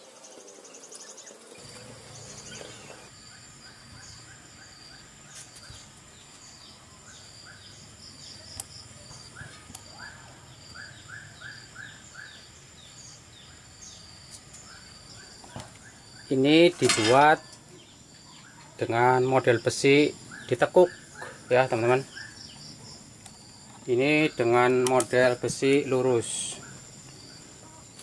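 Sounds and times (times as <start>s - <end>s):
high-pitched insect drone: 0.0s - 28.0s
small birds chirping: 0.0s - 28.0s.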